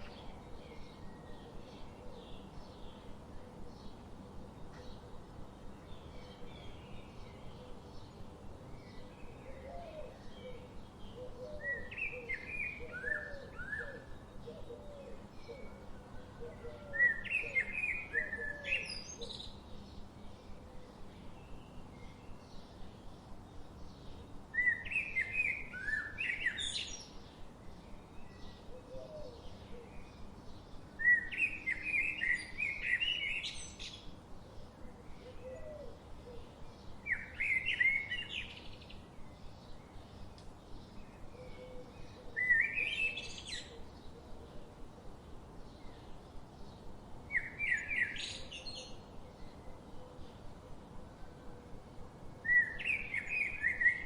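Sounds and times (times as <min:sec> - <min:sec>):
background hiss: 0:00.0 - 0:54.0
songbird singing: 0:00.0 - 0:54.0.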